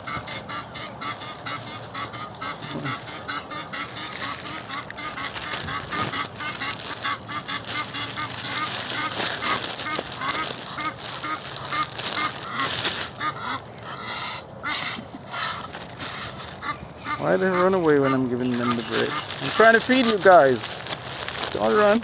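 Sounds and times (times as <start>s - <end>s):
flock of birds calling: 0.0s - 22.0s.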